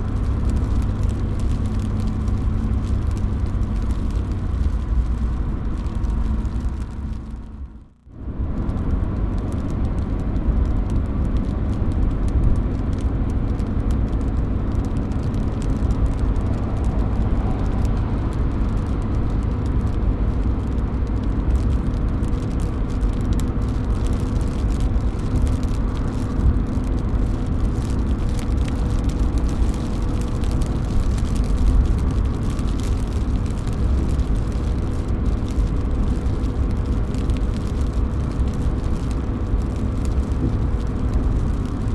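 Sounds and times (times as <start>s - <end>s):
low rumble: 0.0s - 41.9s
rain dripping off a roof: 0.0s - 41.9s.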